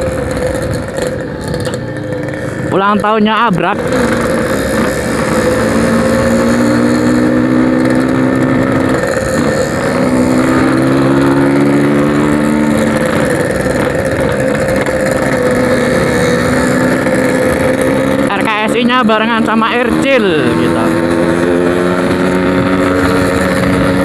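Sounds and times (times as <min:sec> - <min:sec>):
two-stroke motorcycle running: 0:00.0 - 0:24.0.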